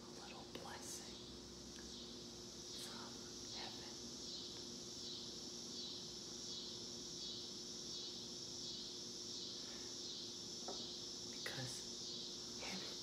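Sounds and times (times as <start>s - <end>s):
faint low hum: 0.0s - 13.0s
high-pitched insect chirring: 0.8s - 13.0s.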